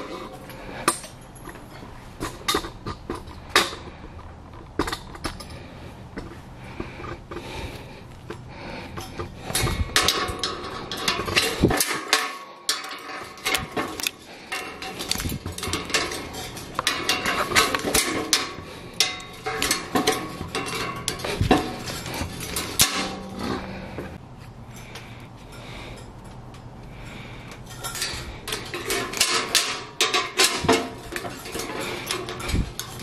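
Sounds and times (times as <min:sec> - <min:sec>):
pliers and wire clinking on rebar: 0:00.0 - 0:33.0.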